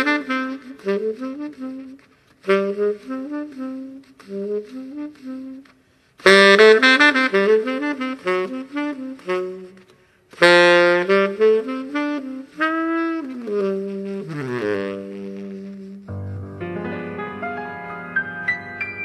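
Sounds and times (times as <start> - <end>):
baritone saxophone playing jazz: 0.0 - 17.2.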